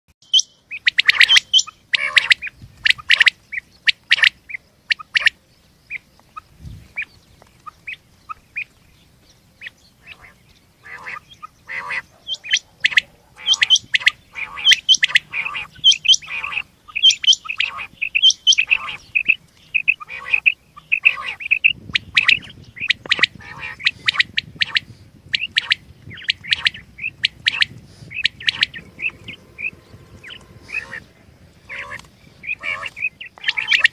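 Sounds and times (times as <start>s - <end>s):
quails calling: 0.2s - 33.9s.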